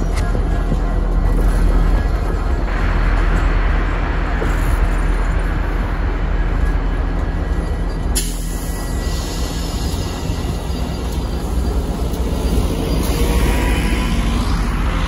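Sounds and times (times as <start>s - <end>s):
locomotive engine drone: 0.0s - 15.0s
wheels rumbling on rails: 0.0s - 15.0s.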